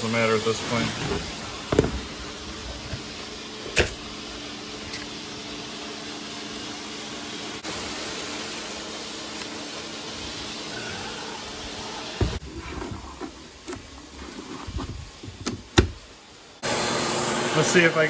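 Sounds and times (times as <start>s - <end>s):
robot vacuum cleaner humming: 0.0s - 15.3s, 16.6s - 18.0s.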